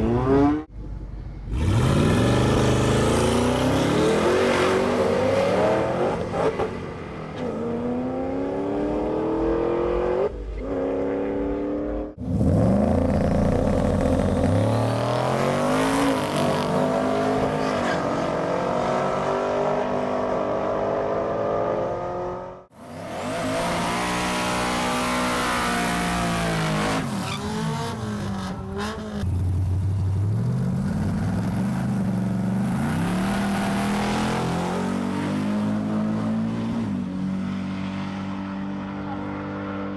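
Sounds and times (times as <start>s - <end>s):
racing car engines revving: 1.5s - 39.9s.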